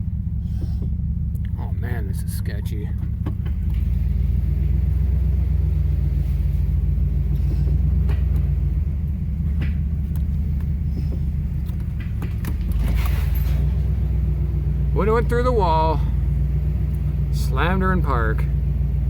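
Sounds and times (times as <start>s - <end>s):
car engine rumbling at low speed: 0.0s - 19.0s.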